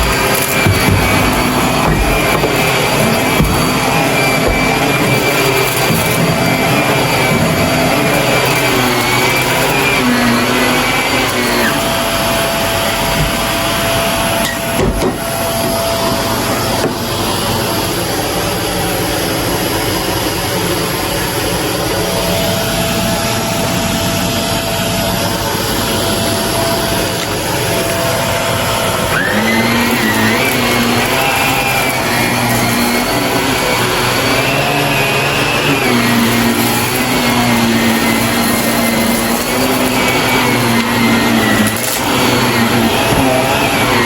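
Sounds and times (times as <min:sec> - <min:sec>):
vacuum cleaner motor whine: 0:00.0 - 0:44.0.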